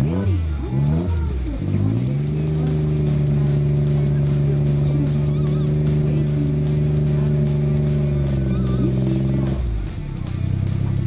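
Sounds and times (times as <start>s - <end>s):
race car engine at raised revs: 0.0s - 11.0s.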